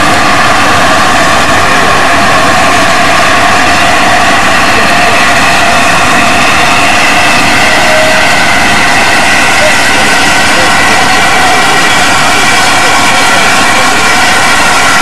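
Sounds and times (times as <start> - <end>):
steam locomotive blowing off steam: 0.0 - 15.0.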